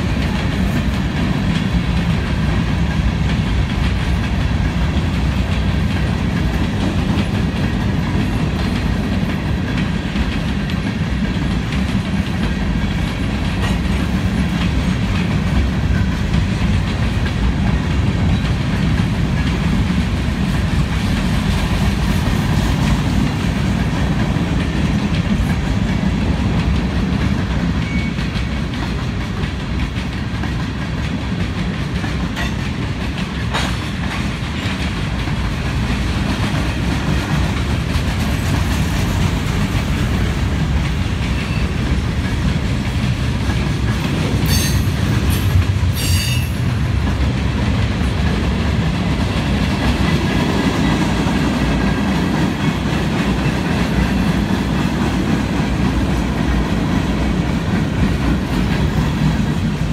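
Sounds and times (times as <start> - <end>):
freight train wheels rumbling: 0.0 - 59.9
wheels clickety-clack on rail joints: 0.0 - 59.9.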